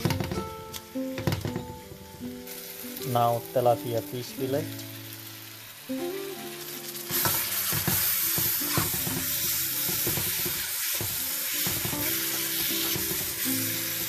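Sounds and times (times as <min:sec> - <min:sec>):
fish sizzling in a wok: 0:00.9 - 0:14.0.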